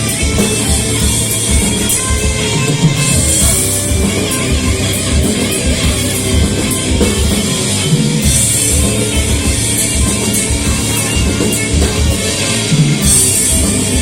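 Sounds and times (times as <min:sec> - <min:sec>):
distorted electric guitars: 0:00.0 - 0:14.0
rapid kick drums and cymbals: 0:00.0 - 0:14.0.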